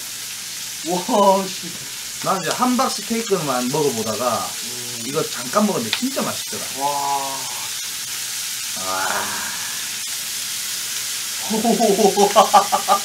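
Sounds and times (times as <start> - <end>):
food sizzling in hot pans: 0.0 - 13.0.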